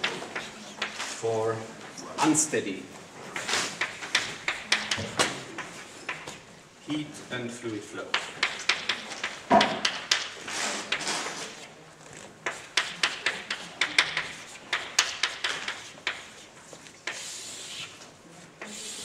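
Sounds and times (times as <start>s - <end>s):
chalk writing on blackboard: 0.0s - 1.2s, 3.3s - 6.5s, 8.0s - 19.0s.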